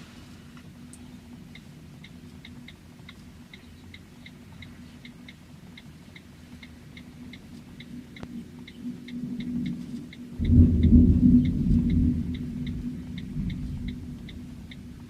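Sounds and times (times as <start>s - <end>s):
low steady hum: 0.0s - 15.0s
light high ticks: 0.4s - 15.0s.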